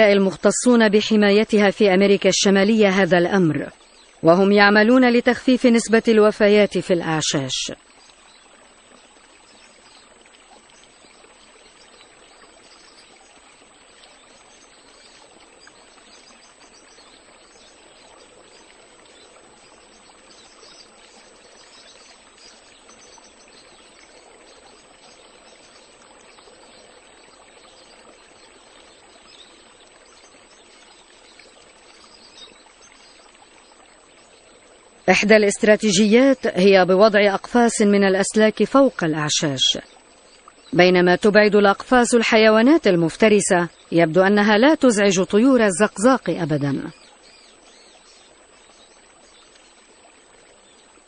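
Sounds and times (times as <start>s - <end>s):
faint wash of water: 0.0s - 51.0s.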